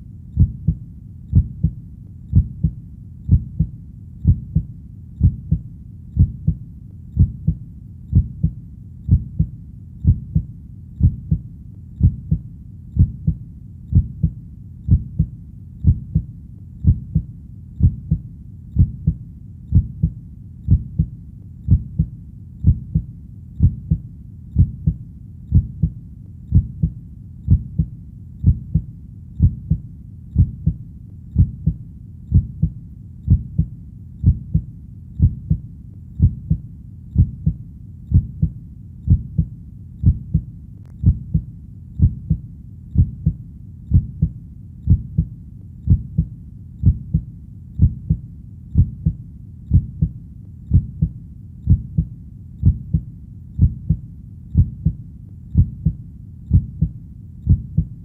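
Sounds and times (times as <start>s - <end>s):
heartbeat thumps: 0.4s - 58.0s.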